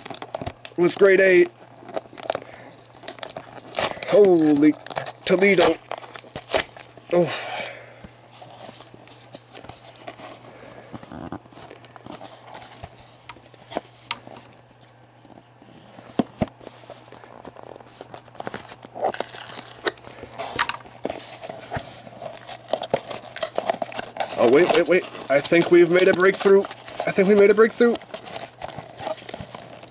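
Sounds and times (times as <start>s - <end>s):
cardboard packaging clicks and scrapes: 0.0s - 7.1s, 8.0s - 29.9s.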